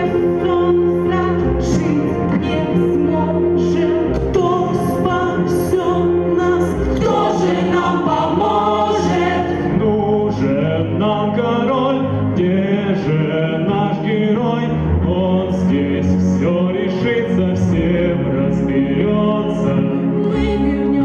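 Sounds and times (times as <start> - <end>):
backing track: 0.0 - 21.0
voices singing together: 0.0 - 21.0.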